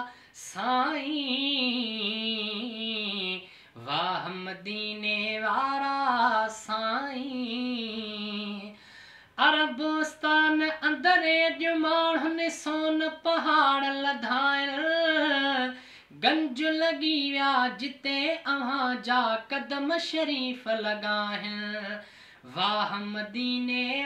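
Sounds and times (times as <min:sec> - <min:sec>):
man singing unaccompanied: 0:00.0 - 0:08.8, 0:09.4 - 0:24.0.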